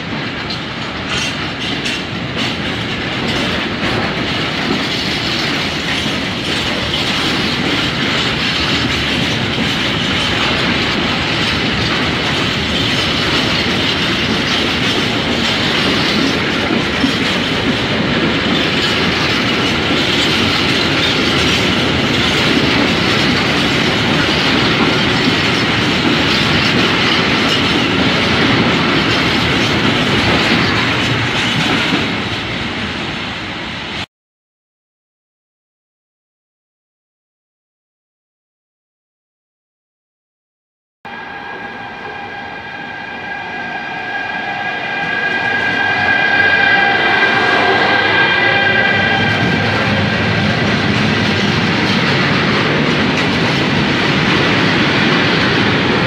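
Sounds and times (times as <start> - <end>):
freight train wheels clattering: 0.0 - 33.0, 42.2 - 56.0.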